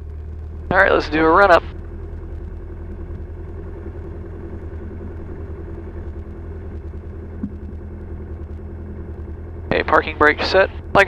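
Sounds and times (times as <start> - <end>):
piston engine idling: 0.0 - 11.0.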